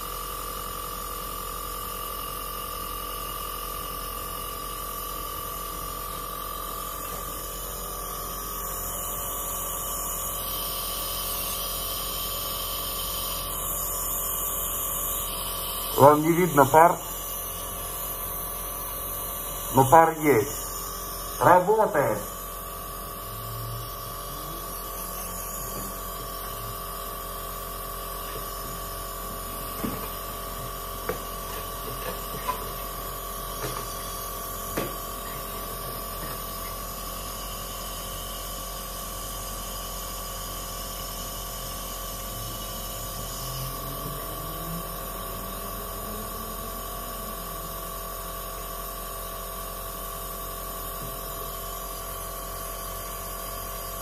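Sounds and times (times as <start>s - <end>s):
nebulizer compressor humming: 0.0s - 54.0s.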